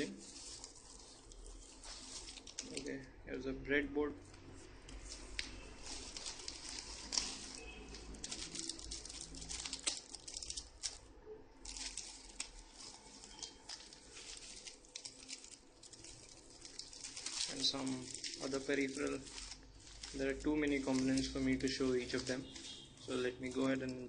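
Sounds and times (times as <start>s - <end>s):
packaging bags crinkling: 0.0s - 3.0s, 4.2s - 24.0s.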